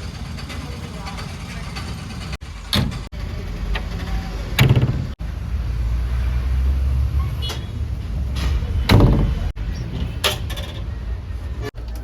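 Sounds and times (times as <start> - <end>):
diesel engine of digger: 0.0 - 12.0.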